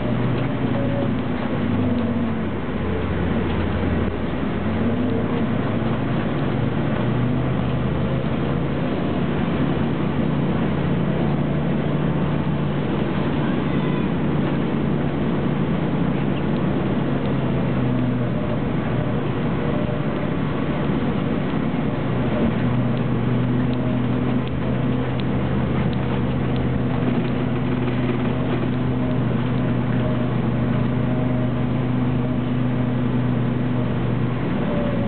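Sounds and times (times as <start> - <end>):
bus engine drone: 0.0 - 35.0.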